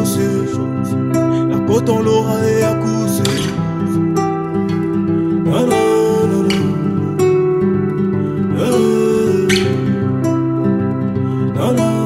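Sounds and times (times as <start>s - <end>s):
rap backing beat with melodic notes: 0.4s - 12.0s.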